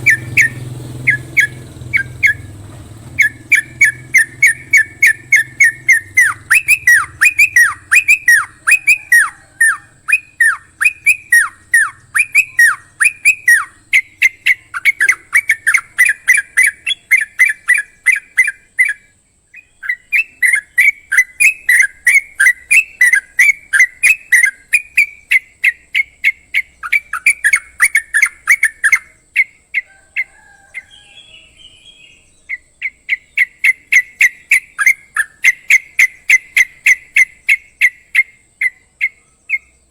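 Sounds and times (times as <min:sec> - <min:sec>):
songbird whistled calls: 0:00.0 - 0:39.9.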